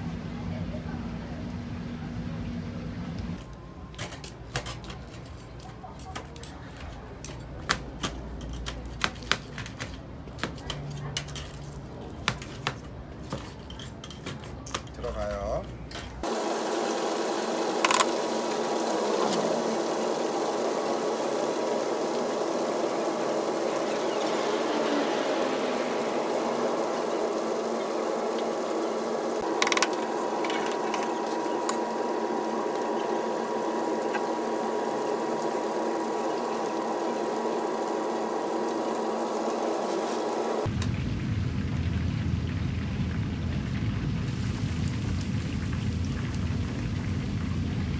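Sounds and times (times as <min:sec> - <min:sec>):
chicken deep-frying in oil: 0:03.3 - 0:47.9.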